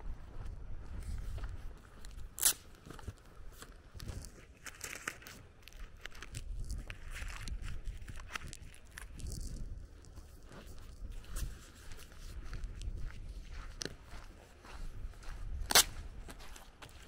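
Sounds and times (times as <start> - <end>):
footsteps: 0.1 - 17.0.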